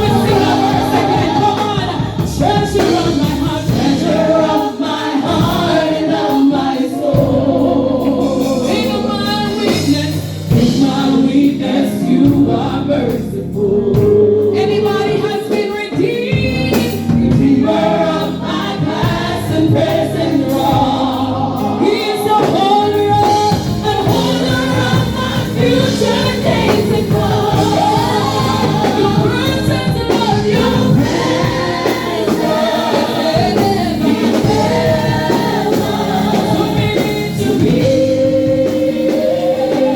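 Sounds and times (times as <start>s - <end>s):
choir singing worship song: 0.0s - 39.9s
instrumental accompaniment: 0.0s - 39.9s.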